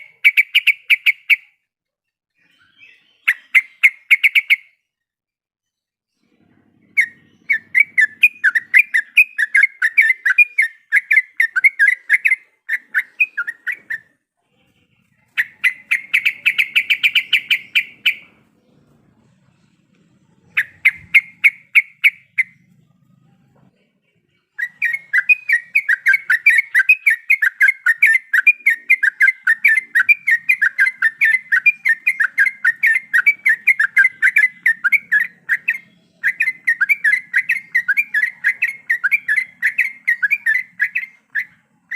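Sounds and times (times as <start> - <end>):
bird singing chattering notes: 0.0 - 1.5, 2.5 - 4.8, 6.8 - 14.2, 15.1 - 23.2, 24.1 - 41.9.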